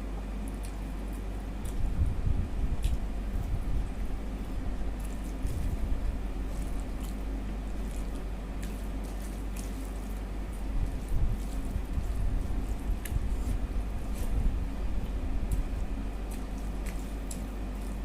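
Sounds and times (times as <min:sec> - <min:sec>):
steady low hum: 0:00.0 - 0:18.0
person chewing food: 0:00.2 - 0:02.0, 0:02.7 - 0:18.0.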